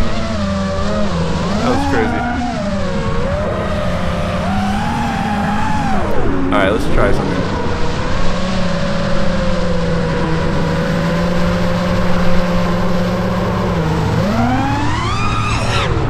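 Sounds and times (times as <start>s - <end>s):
drone motors and propellers whining: 0.0s - 16.0s.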